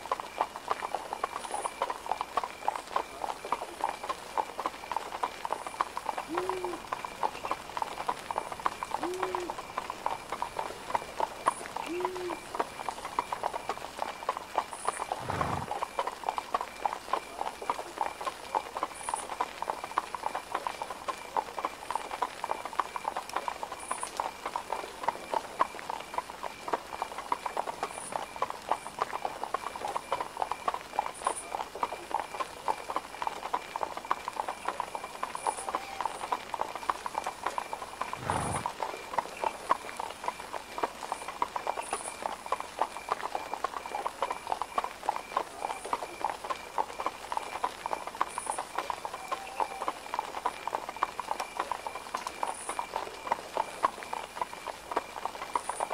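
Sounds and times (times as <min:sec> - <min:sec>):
horse hooves clip-clopping: 0:00.0 - 0:55.9.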